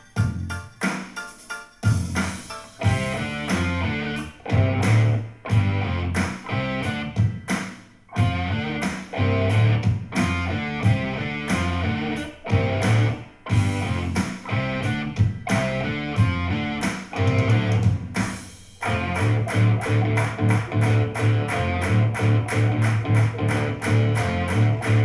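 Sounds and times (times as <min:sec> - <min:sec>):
guitar-led music over speakers: 0:00.0 - 0:25.0.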